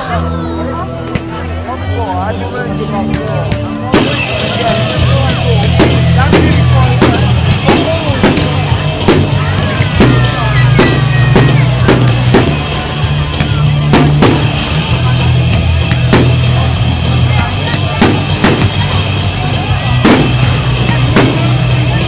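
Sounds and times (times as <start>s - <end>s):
fireworks bursting: 3.9s - 22.0s
loud music with heavy bass: 3.9s - 22.0s.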